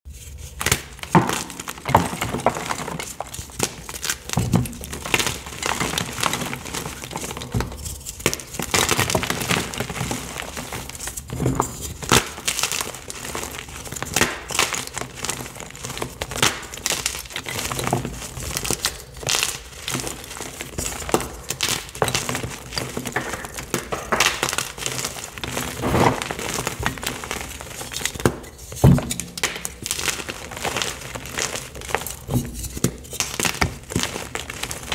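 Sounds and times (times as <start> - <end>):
powder crumbling: 0.1 - 34.9.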